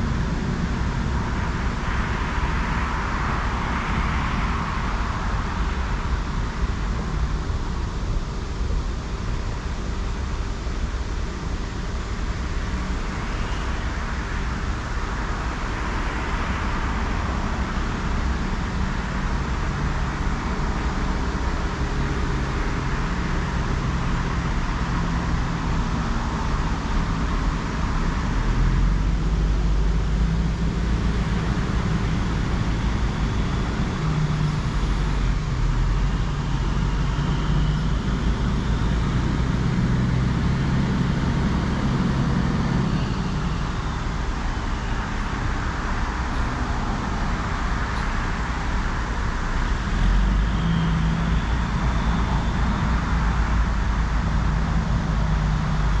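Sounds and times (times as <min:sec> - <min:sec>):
low engine drone: 0:00.0 - 0:56.0
tyre hiss of passing vehicles: 0:00.0 - 0:56.0.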